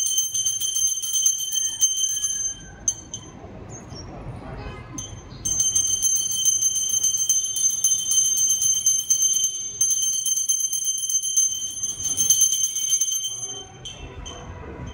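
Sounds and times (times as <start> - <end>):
hand bell ringing rapidly: 0.0 - 3.4, 5.0 - 14.9.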